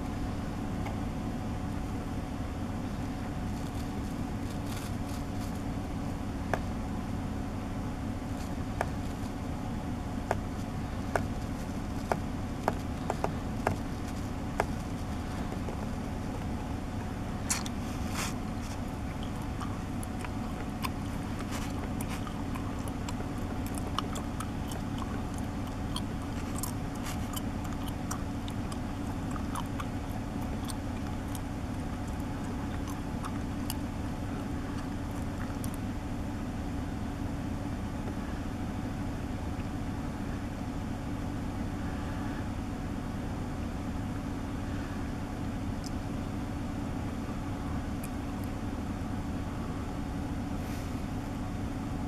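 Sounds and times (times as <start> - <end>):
vehicle idling: 0.0 - 52.0.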